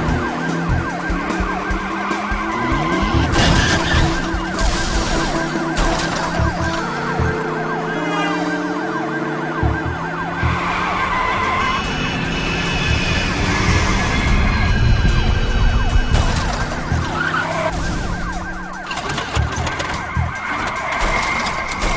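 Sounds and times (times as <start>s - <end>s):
car noise: 0.0s - 21.9s
music: 0.0s - 21.9s
police sirens wailing: 0.0s - 21.9s.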